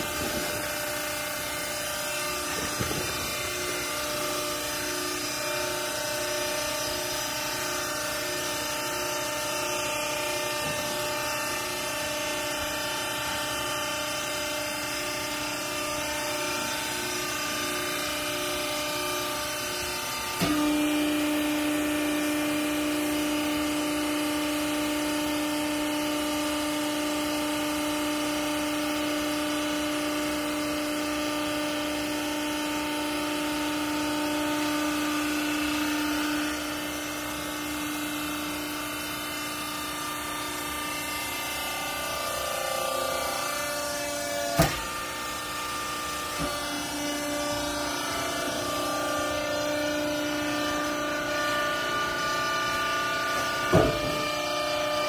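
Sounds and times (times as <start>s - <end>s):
hydraulic motor humming: 0.0s - 55.0s
hydraulic ram drone: 0.0s - 55.0s.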